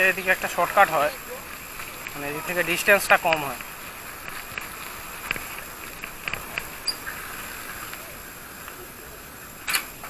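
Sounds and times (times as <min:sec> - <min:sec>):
bicycle riding on dirt: 0:00.0 - 0:08.9.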